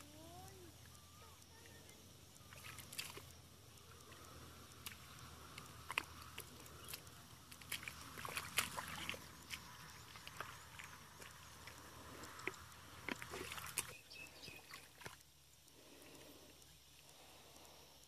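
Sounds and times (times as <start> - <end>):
squelching in wet mud: 0.0 - 17.3.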